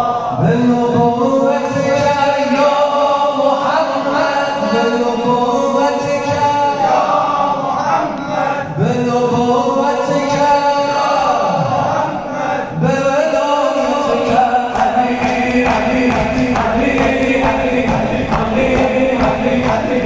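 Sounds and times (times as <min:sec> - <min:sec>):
voices chanting a lament: 0:00.0 - 0:20.0.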